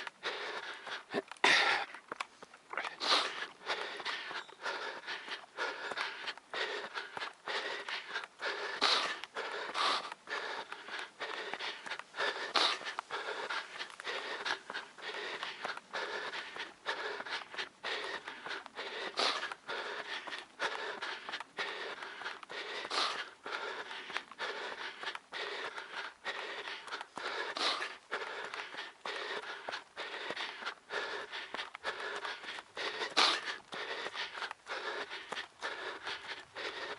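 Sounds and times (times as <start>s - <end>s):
person panting: 0.0s - 36.9s.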